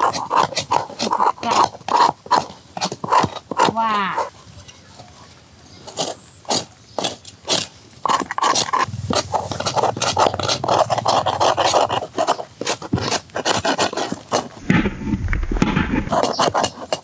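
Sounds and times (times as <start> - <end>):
rapid scraping and rasping: 0.0 - 4.3, 5.8 - 14.9, 15.6 - 17.0.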